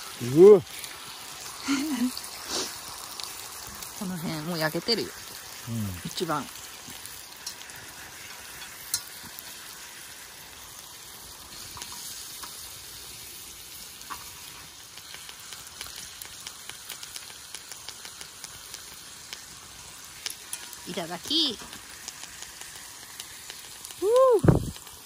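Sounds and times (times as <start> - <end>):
fat popping and crackling: 0.0 - 25.0
pork sizzling: 0.0 - 25.0.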